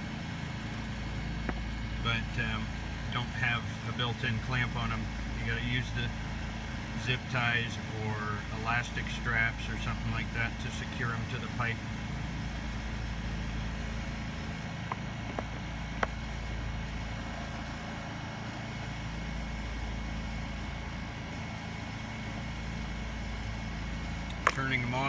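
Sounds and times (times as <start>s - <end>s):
air conditioner unit humming: 0.0s - 25.0s.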